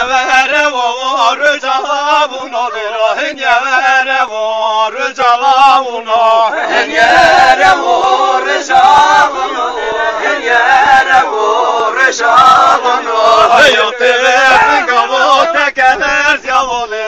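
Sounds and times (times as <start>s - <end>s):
man singing lead: 0.0s - 17.0s
men singing in chorus: 0.0s - 17.0s.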